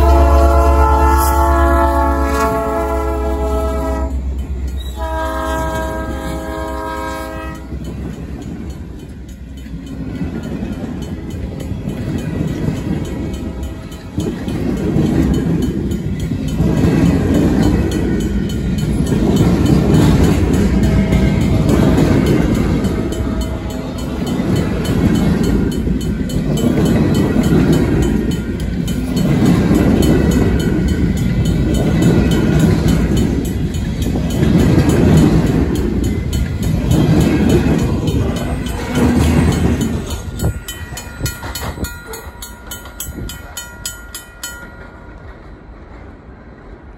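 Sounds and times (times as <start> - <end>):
crossing bell ringing: 0.0 - 45.8
freight train rumbling past: 0.0 - 46.9.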